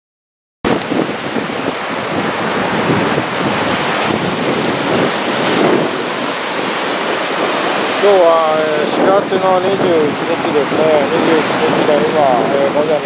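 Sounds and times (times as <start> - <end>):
surf breaking on a beach: 0.7 - 13.0
wind buffeting microphone: 0.7 - 13.0.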